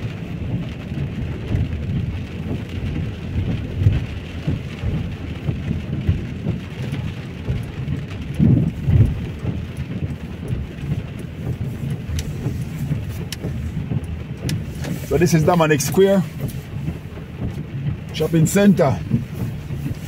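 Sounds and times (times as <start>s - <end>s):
heavy rain falling: 0.0s - 20.0s
low rumble: 0.0s - 20.0s.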